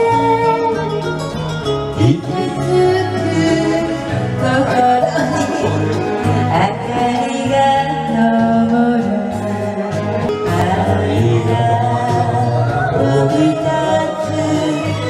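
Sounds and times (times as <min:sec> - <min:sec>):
backing track with bass line: 0:00.0 - 0:15.0
person singing karaoke: 0:00.0 - 0:15.0.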